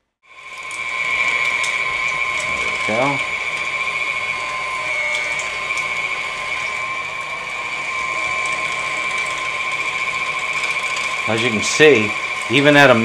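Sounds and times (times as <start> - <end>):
meat grinder grinding meat: 0.3 - 13.0
stand mixer motor whining: 0.3 - 13.0.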